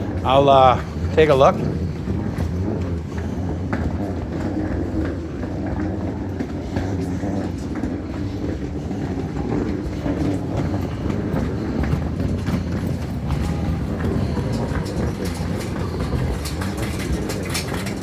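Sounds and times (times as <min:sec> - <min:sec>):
suitcase wheels rolling over stone: 0:00.0 - 0:18.0.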